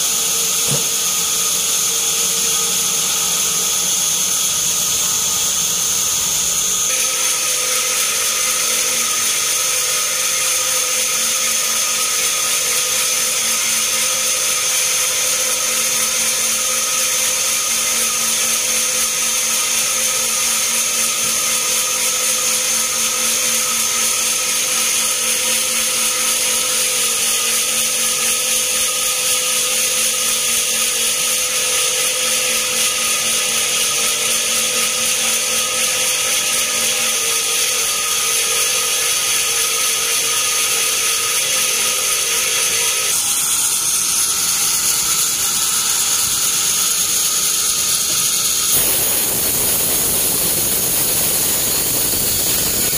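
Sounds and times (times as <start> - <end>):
bandsaw high whine: 0.0 - 52.9.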